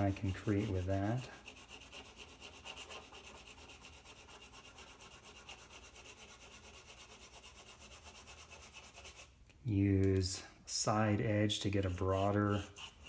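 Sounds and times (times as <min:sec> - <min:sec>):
crayon scratching on paper: 0:00.0 - 0:09.3, 0:11.8 - 0:13.0.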